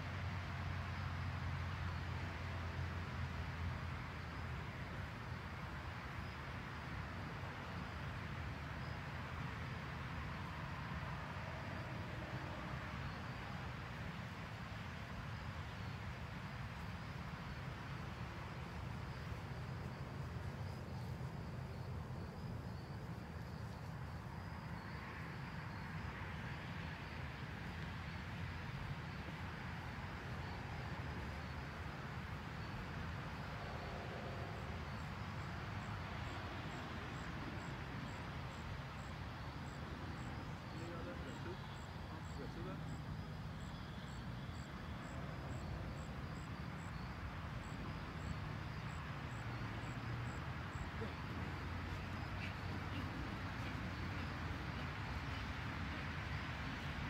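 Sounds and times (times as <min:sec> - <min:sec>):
outdoor background rumble: 0:00.0 - 0:57.0.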